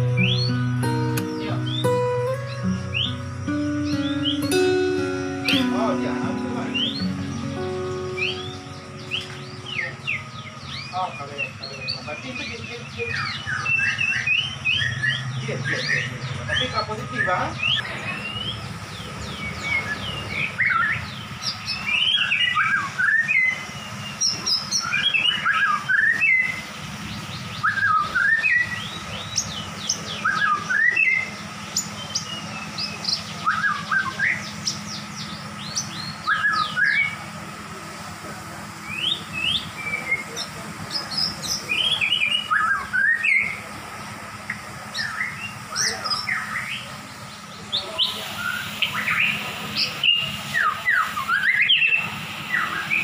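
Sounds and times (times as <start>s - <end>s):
songbirds chirping and whistling: 0.0s - 53.0s.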